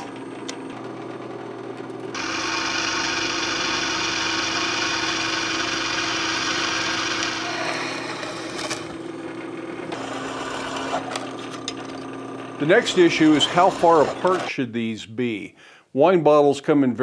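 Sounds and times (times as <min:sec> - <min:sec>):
drill press motor hum: 0:00.0 - 0:14.5.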